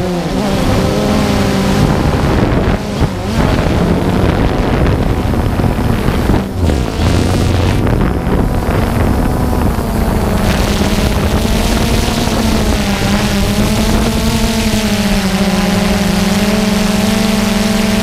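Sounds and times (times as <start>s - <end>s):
drone propellers whirring: 0.0s - 18.0s.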